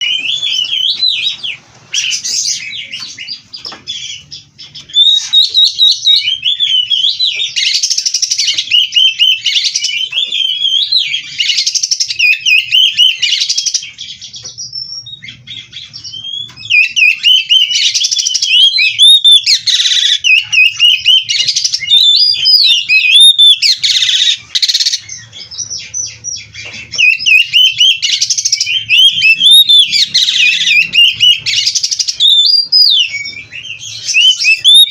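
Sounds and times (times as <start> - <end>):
songbird singing whistles and trills: 0.0 - 34.9.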